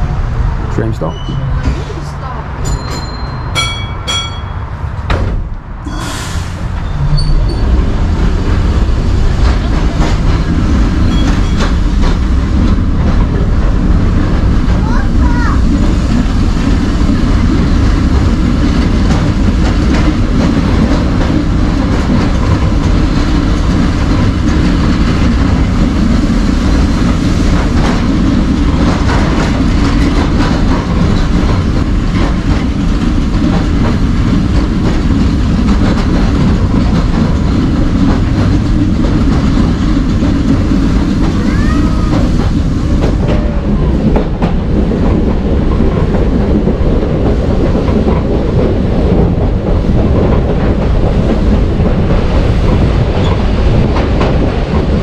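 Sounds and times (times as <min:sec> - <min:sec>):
tram rumbling along track: 0:00.0 - 0:55.0
wheels clicking over rail joints: 0:06.8 - 0:55.0.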